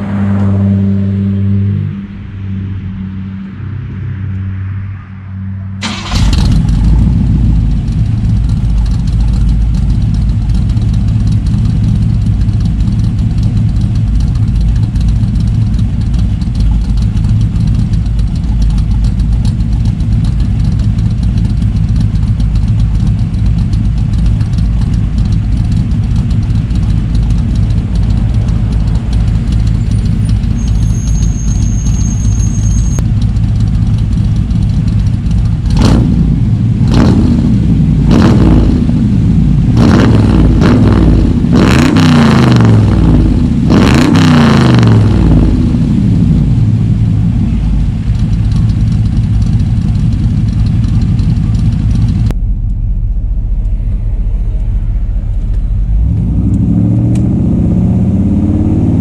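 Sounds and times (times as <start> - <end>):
vehicle engine idling loudly: 5.8 - 59.0.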